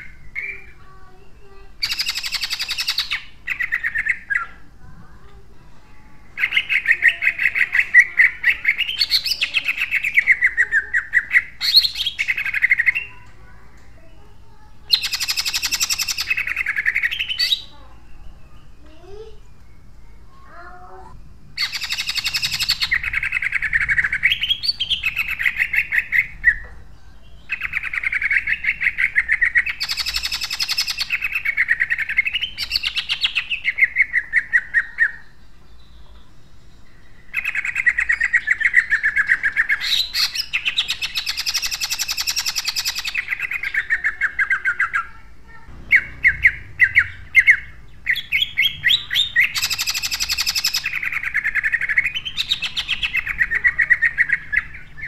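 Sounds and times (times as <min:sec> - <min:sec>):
bird singing rattling bursts: 0:00.0 - 0:05.4, 0:06.2 - 0:20.2, 0:21.2 - 0:26.6, 0:27.2 - 0:35.6, 0:36.4 - 0:55.0.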